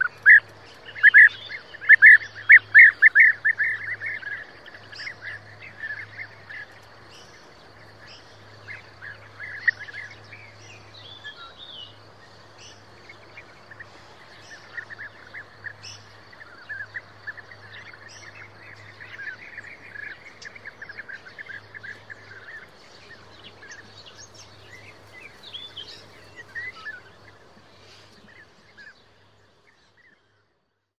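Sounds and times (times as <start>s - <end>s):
birds calling rolling notes: 0.0s - 30.4s.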